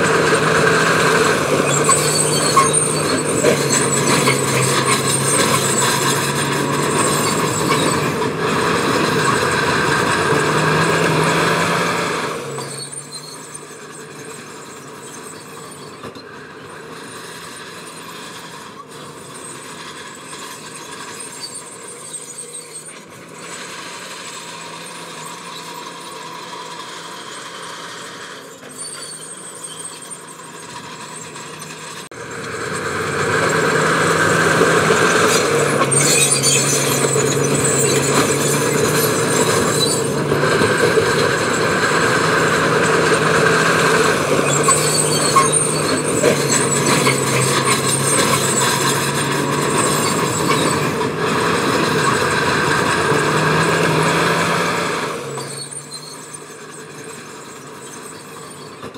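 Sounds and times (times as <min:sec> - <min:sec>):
diesel machinery engine: 0:00.0 - 0:58.9
metallic squealing: 0:00.0 - 0:58.9.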